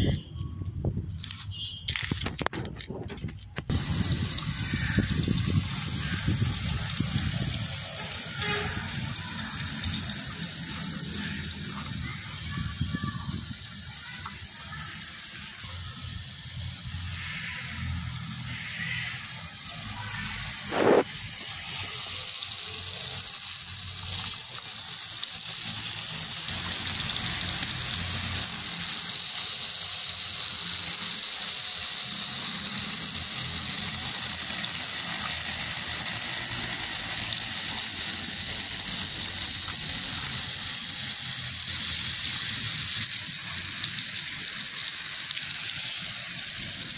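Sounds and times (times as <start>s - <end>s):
small motor whirring: 3.4s - 46.9s.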